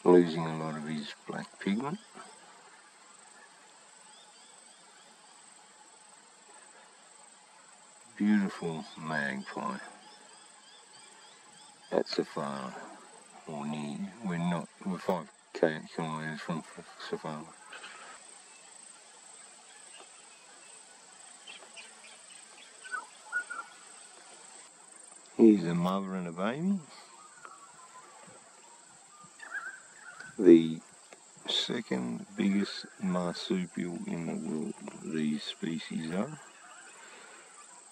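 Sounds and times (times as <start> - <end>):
insects chorus: 0.0 - 37.9.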